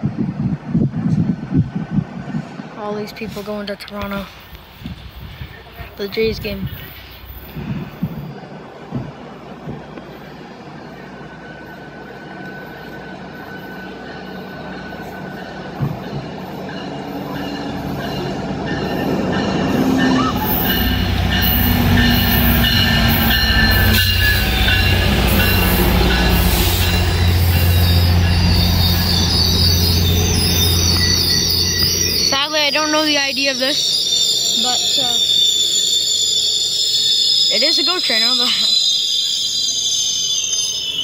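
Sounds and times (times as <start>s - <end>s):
diesel locomotive drone: 0.0s - 41.0s
wheels and brakes squealing: 3.2s - 8.6s, 9.9s - 41.0s.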